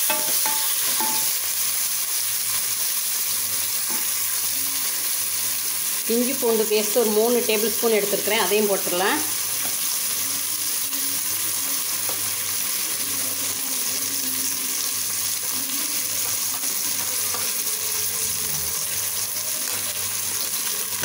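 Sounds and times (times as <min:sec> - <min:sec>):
oil sizzling in a pot: 0:00.0 - 0:21.0.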